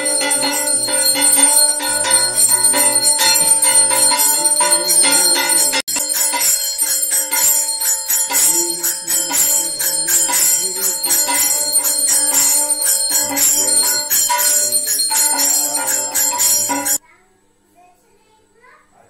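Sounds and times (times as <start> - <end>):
brass hand bell ringing: 0.0 - 17.0.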